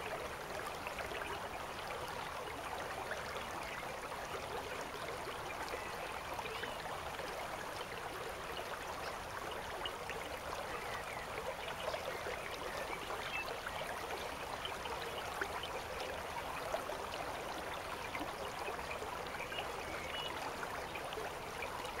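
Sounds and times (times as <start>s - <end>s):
river water babbling: 0.0s - 22.0s.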